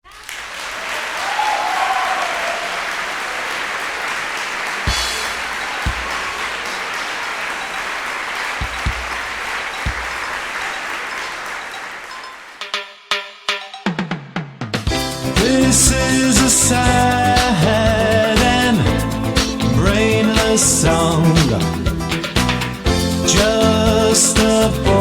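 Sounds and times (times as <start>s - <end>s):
crowd applause and cheering: 0.0s - 12.8s, 14.9s - 25.0s.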